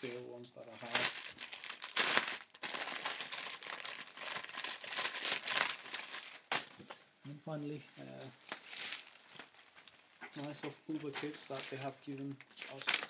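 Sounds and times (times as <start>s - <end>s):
plastic wrapping crinkling: 0.0s - 6.8s, 8.0s - 13.0s
sharp plastic crackle: 0.0s - 6.8s, 8.2s - 13.0s.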